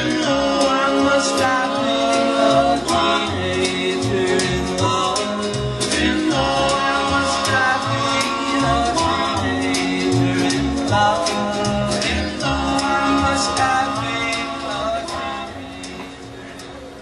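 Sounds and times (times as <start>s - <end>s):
song with singing and steady beat: 0.0s - 17.0s.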